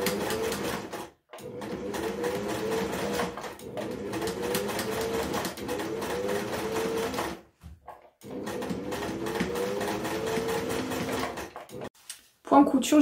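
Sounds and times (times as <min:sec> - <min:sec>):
sewing machine stitching: 0:00.0 - 0:11.9.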